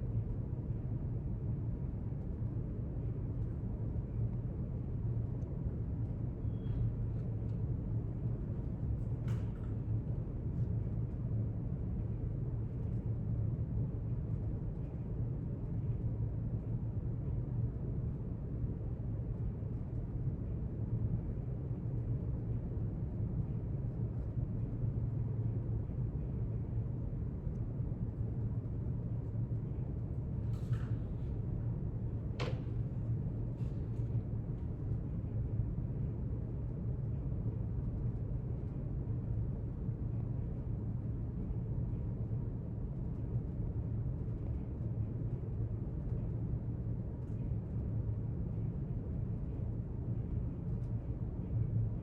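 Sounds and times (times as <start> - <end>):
low room rumble: 0.0 - 52.0.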